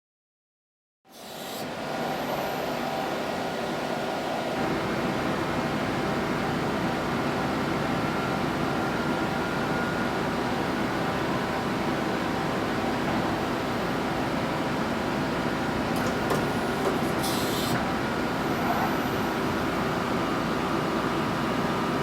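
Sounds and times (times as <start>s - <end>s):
machinery humming and whirring: 1.2s - 22.0s.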